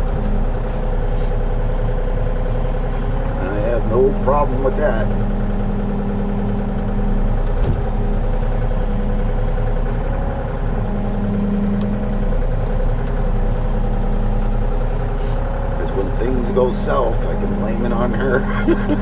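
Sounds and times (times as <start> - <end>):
diesel engine of digger: 0.0 - 19.0.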